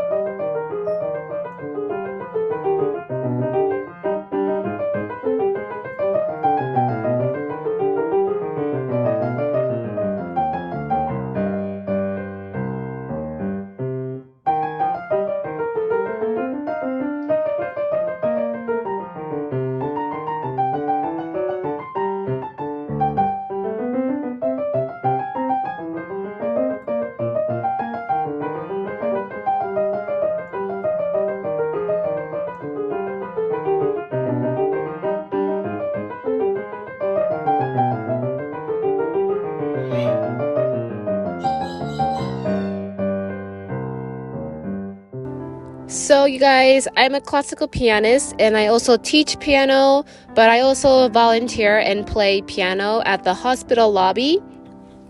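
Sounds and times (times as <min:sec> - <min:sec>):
solo piano arpeggios: 0:00.0 - 0:55.0.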